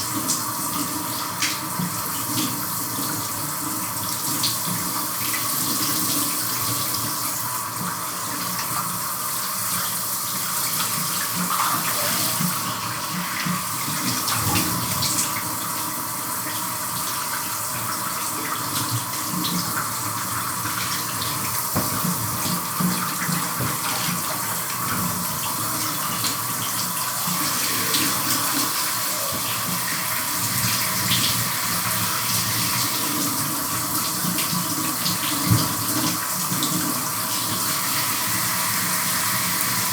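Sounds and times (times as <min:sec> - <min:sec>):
shower water spraying: 0:03.9 - 0:39.9.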